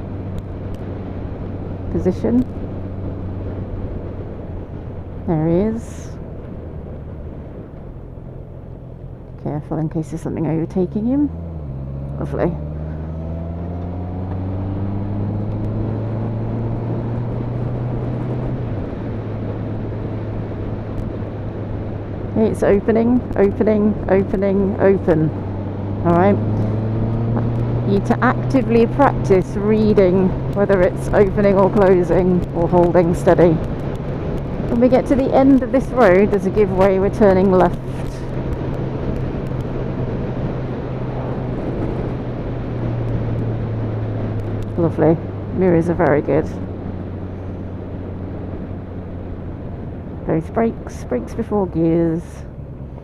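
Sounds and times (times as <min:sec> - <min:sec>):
motorcycle engine running: 0:00.0 - 0:53.0
road and wind rush: 0:00.0 - 0:53.0.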